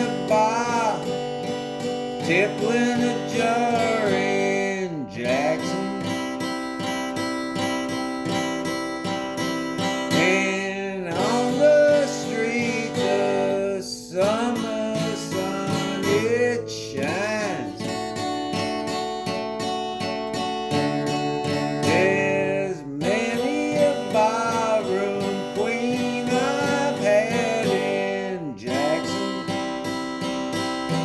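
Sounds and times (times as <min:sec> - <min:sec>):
country song: 0:00.0 - 0:31.0
strummed acoustic guitar: 0:00.0 - 0:31.0.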